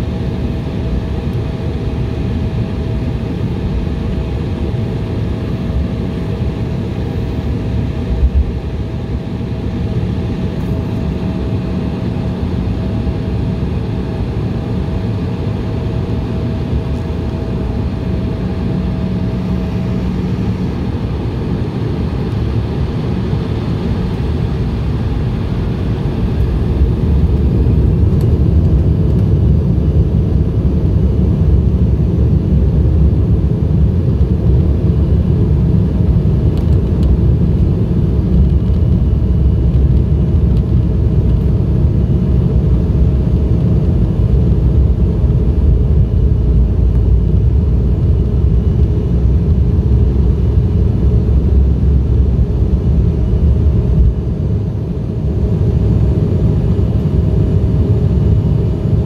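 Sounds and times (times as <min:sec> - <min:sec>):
jet engines at takeoff power: 0:00.0 - 0:59.0.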